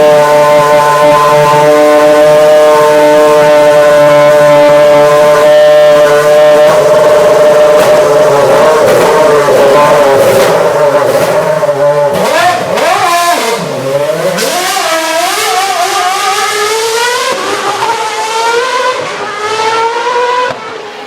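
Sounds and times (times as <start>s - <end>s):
racing car engine screaming: 0.0s - 21.0s.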